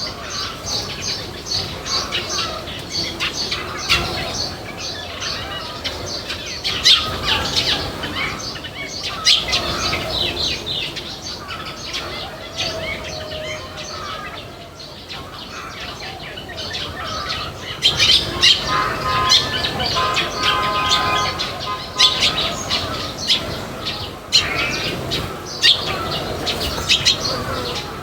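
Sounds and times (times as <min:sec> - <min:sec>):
bird squawks: 0:00.0 - 0:28.0
small birds chirping: 0:00.0 - 0:28.0.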